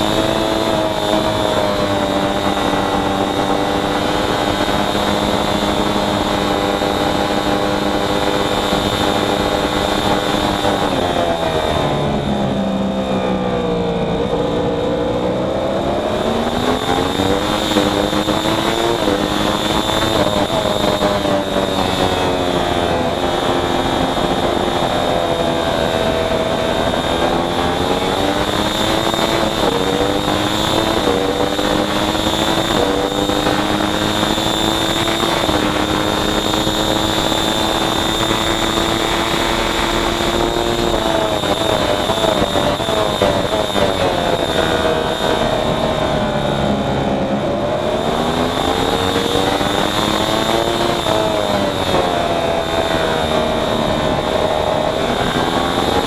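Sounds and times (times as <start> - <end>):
high-pitched whine: 0.0 - 56.0
racing motorcycle engine revving: 0.0 - 56.0.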